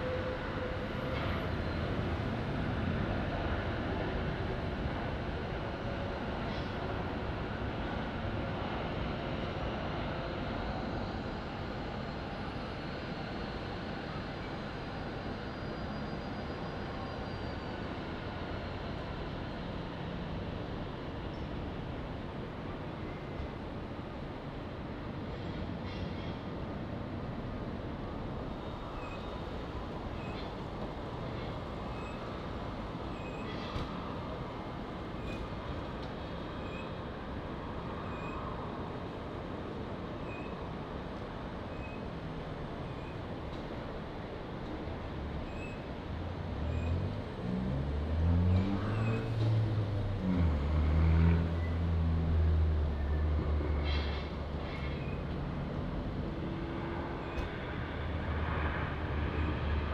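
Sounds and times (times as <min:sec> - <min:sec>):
jet engines with faint whine: 0:00.0 - 0:47.4, 0:52.8 - 0:59.9.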